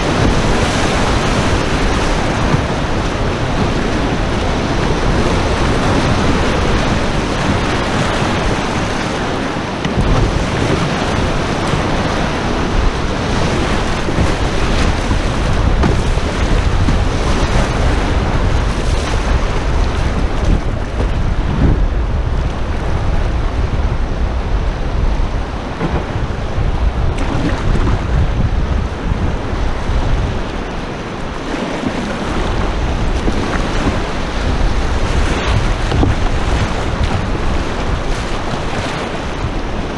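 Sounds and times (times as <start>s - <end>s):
river rapids rushing: 0.0s - 39.9s
wind buffeting microphone: 0.0s - 39.9s.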